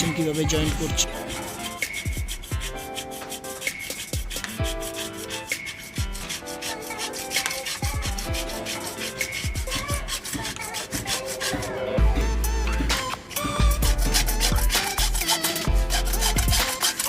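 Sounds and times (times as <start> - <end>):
hand saw cutting plastic pipe: 0.0 - 17.0.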